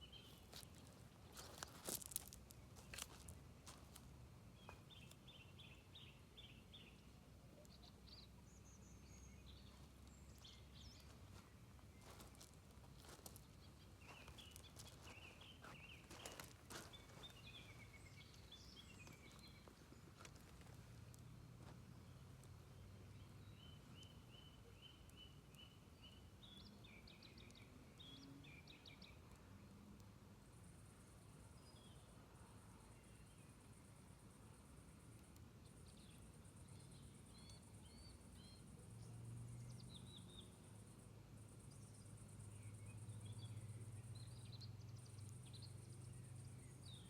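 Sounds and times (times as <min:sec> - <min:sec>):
faint birdsong: 0:00.0 - 0:47.0
songbird singing: 0:00.0 - 0:47.0.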